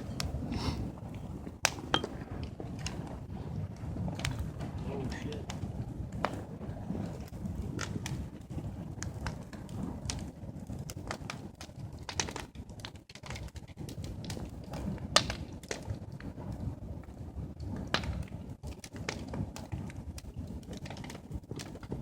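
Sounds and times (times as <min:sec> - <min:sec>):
fire crackling with pops: 0:00.0 - 0:22.0.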